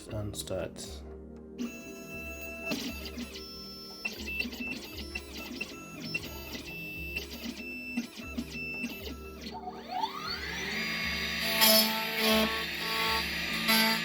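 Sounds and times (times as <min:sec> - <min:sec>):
spindle motor spinning up: 0:01.6 - 0:14.0
stepper motors whining: 0:01.6 - 0:14.0.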